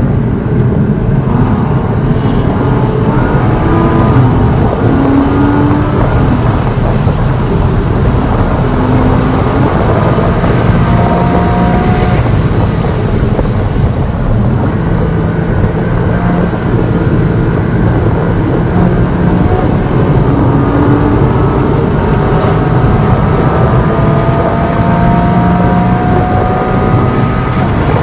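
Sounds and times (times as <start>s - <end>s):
car engine revving hard: 0.0s - 28.0s
road and wind noise: 0.0s - 28.0s.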